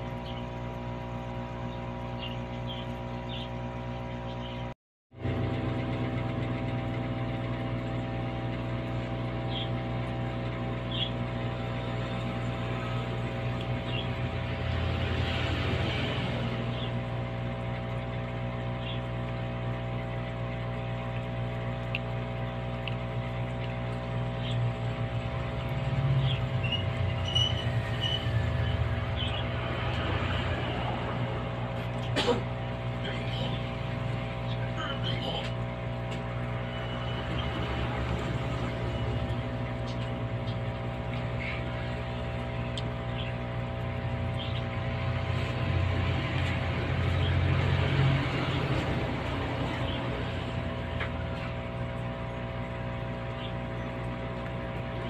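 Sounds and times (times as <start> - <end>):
air pump humming: 0.0 - 55.0
wavering low rumble: 0.0 - 55.0.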